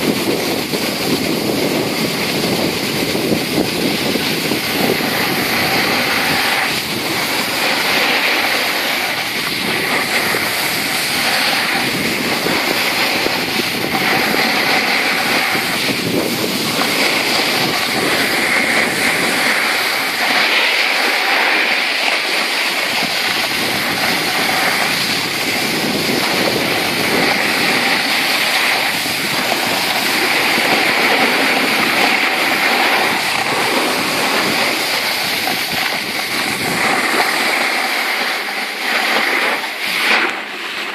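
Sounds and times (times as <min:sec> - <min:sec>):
skis hissing over packed snow: 0:00.0 - 0:40.9
wind buffeting microphone: 0:00.0 - 0:40.9.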